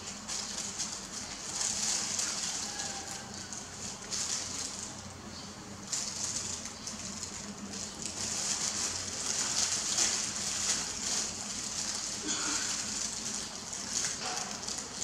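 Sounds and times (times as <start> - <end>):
plastic gloves rustling and crackling: 0.0 - 15.0.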